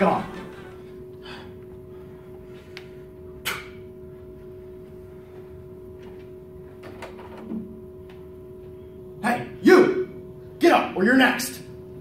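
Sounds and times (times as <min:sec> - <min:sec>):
electrical room hum: 0:00.0 - 0:12.0.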